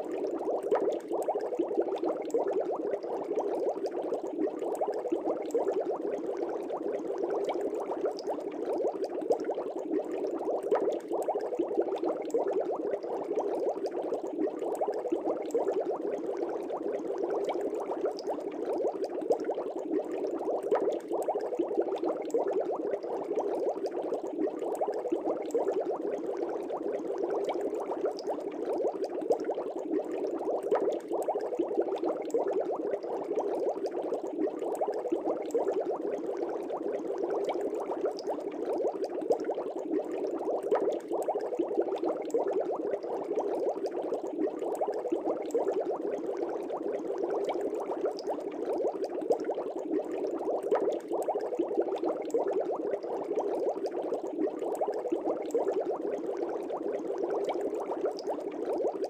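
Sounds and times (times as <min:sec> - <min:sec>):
fish tank bubbling: 0:00.0 - 0:59.0.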